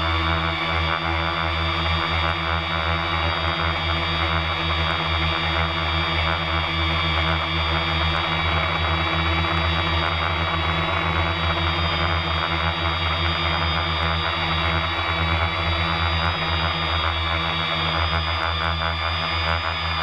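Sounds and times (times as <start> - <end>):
drone motors humming and whining: 0.0 - 20.0
propeller flutter: 0.0 - 20.0.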